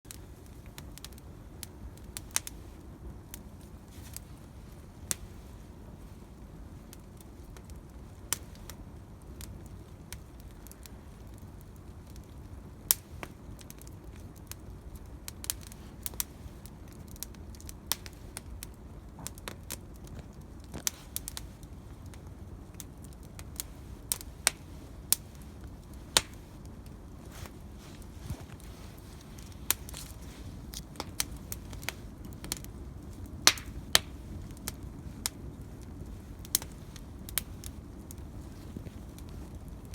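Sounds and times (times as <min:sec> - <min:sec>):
bonfire crackling: 0:00.1 - 0:39.9
low fire rumble: 0:00.1 - 0:39.9.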